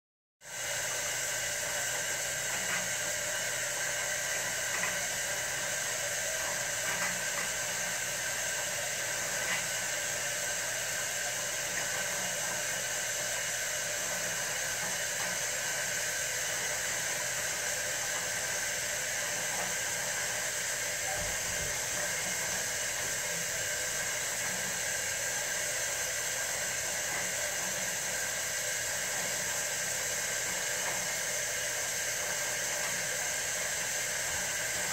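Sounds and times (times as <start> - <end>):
water rushing in aquarium: 0.5 - 34.9.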